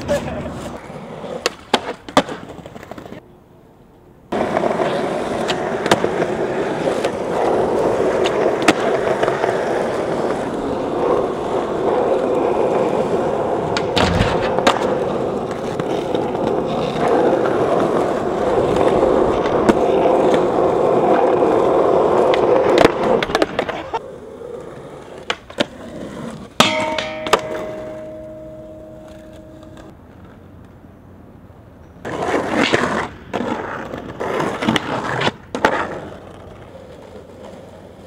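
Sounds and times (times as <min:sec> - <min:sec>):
skateboard wheels rolling on asphalt: 0:00.0 - 0:38.0.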